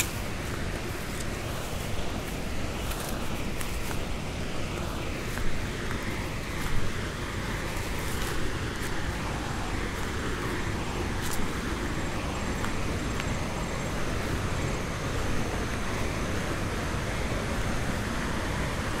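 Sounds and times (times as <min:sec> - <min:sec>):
low outdoor rushing noise: 0:00.0 - 0:19.0.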